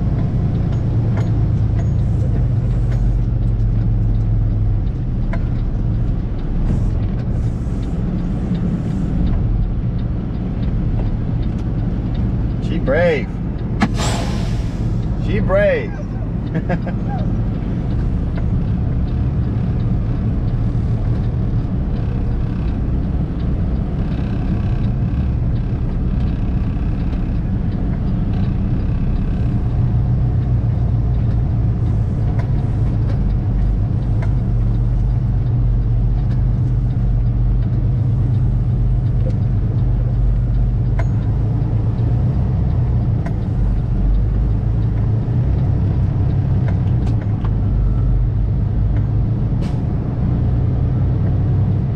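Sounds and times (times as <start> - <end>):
diesel truck engine droning: 0.0 - 51.9.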